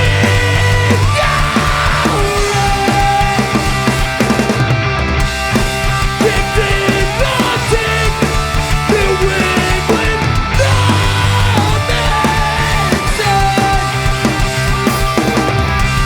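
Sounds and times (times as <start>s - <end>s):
bass guitar: 0.0s - 16.0s
distorted electric guitars: 0.0s - 16.0s
driving drum beat: 0.0s - 16.0s.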